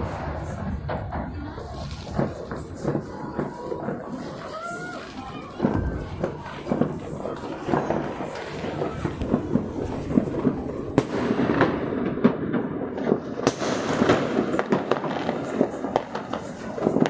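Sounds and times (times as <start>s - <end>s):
continuous crackling: 0.0s - 17.0s
fireworks bangs and pops: 0.0s - 17.0s.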